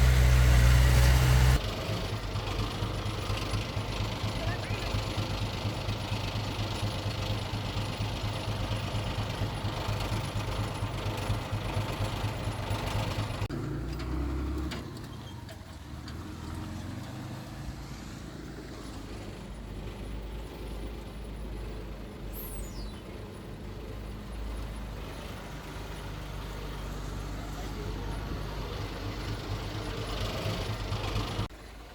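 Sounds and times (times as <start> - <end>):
heavy machinery diesel engine: 0.0 - 31.9.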